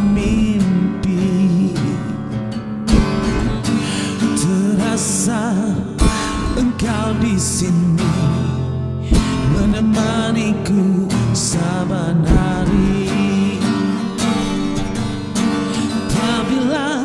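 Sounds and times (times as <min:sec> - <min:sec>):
acoustic guitar strumming: 0:00.0 - 0:17.0
person singing with vibrato: 0:00.0 - 0:17.0.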